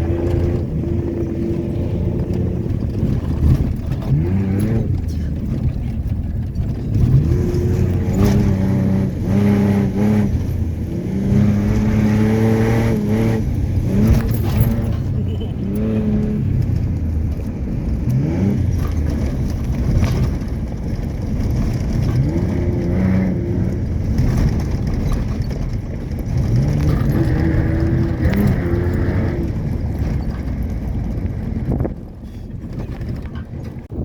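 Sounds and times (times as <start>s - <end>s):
truck engine revving: 0.0s - 33.8s.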